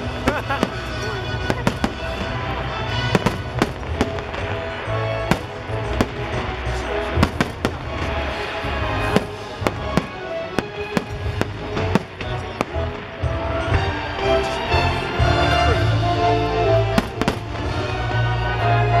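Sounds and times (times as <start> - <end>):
fireworks bangs: 0.0 - 14.6, 16.8 - 18.6
loud show music: 0.0 - 19.0.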